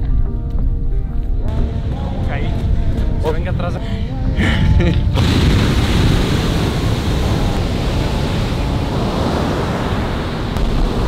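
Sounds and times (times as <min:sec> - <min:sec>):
wind rumbling on microphone: 0:00.0 - 0:11.0
ocean surf breaking: 0:01.6 - 0:11.0.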